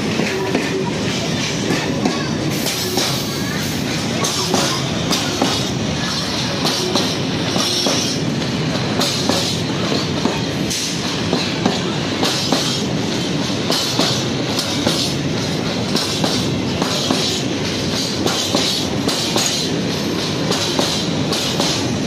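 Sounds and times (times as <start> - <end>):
clickety-clack over rail joints: 0.0 - 22.0
train wheels rumbling on rail: 0.0 - 22.0.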